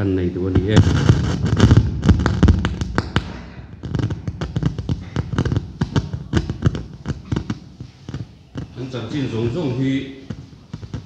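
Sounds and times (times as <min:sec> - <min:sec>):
sharp cracks and pops: 0:00.5 - 0:09.6, 0:10.2 - 0:11.0.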